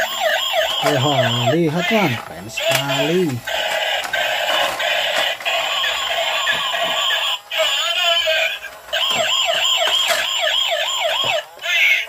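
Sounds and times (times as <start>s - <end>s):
warbling toy siren: 0.0s - 1.9s, 2.6s - 12.0s.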